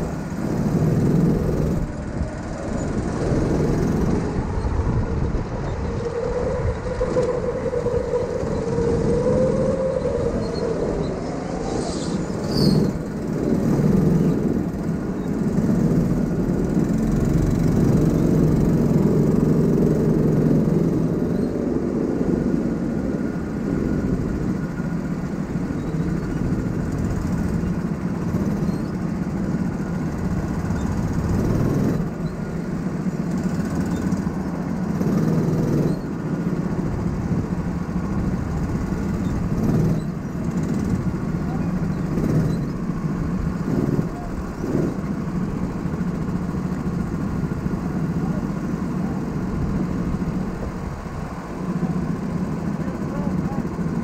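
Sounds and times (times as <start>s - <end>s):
go-kart engine: 0.0s - 54.0s.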